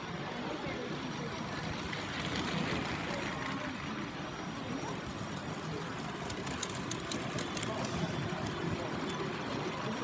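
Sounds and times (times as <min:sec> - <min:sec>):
toy trains rolling on plastic track: 0:00.0 - 0:10.0.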